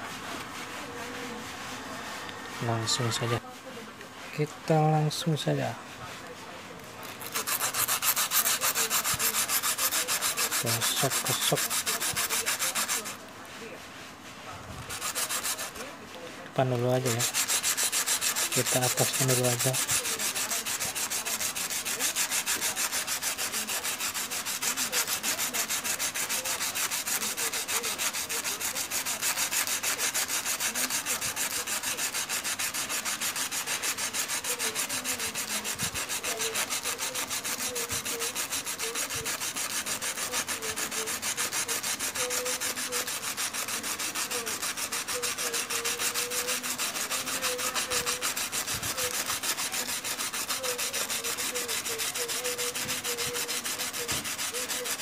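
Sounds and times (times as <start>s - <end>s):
stone scraping on sandpaper: 0.0s - 3.4s, 7.0s - 13.3s, 14.8s - 16.0s, 16.6s - 55.0s.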